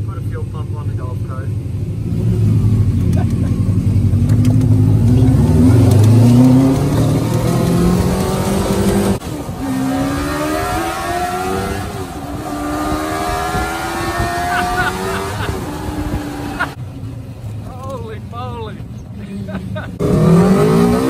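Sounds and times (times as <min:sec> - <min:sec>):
golf cart engine accelerating: 0:01.6 - 0:21.0.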